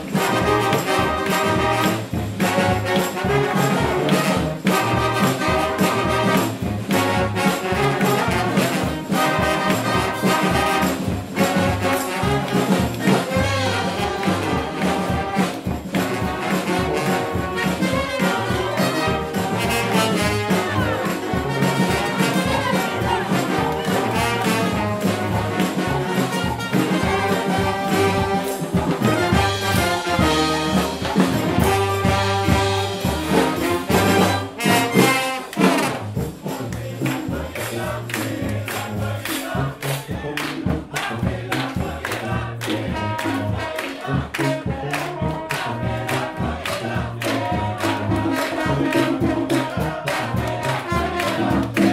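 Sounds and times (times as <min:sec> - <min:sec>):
brass band playing funk: 0:00.0 - 0:51.9
drum kit: 0:00.0 - 0:51.9.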